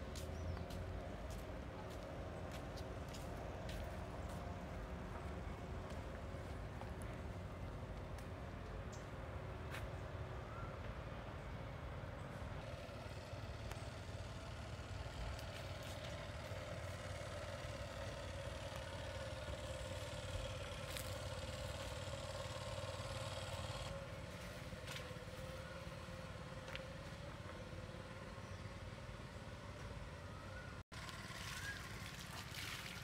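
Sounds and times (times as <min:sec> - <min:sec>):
distant motorboat engine droning: 0:00.0 - 0:33.0.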